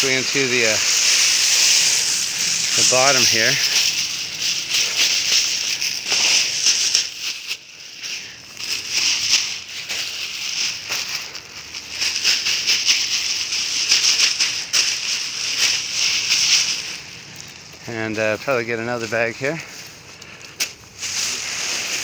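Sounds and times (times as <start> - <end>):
dry leaves rustling: 0.0 - 22.0.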